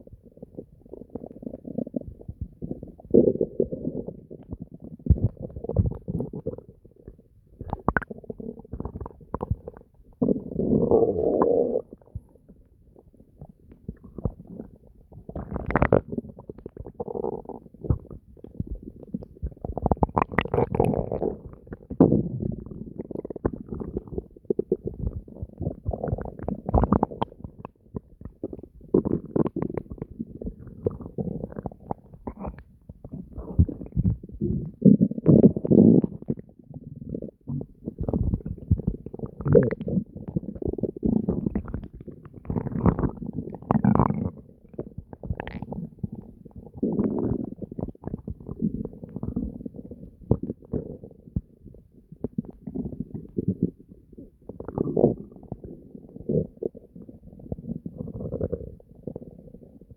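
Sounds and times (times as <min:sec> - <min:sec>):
stomach gurgling and growling: 0:00.0 - 0:59.9.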